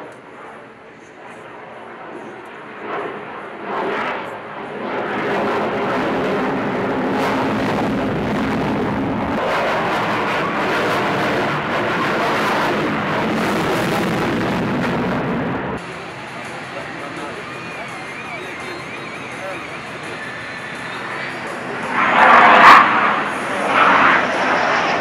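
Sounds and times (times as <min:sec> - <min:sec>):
jet flying overhead: 0:00.0 - 0:25.0.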